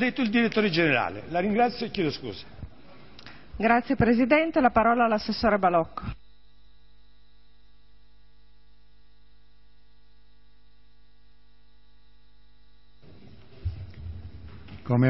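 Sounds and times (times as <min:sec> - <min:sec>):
electrical mains hum: 0:00.0 - 0:15.0
microphone room hiss: 0:00.0 - 0:15.0.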